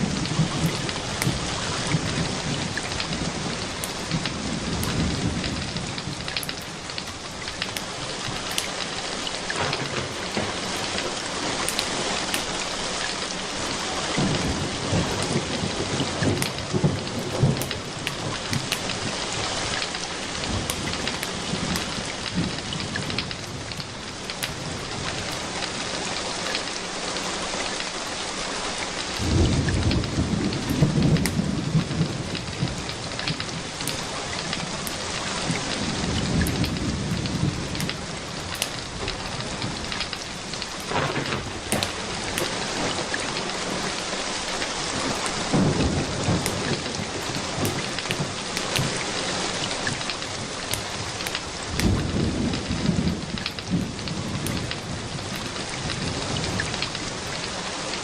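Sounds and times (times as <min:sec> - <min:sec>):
low rolls of thunder: 0:00.0 - 0:08.7, 0:09.4 - 0:12.6, 0:13.7 - 0:25.4, 0:29.2 - 0:44.0, 0:44.9 - 0:49.0, 0:49.6 - 0:57.5
steady rain: 0:00.0 - 0:58.0.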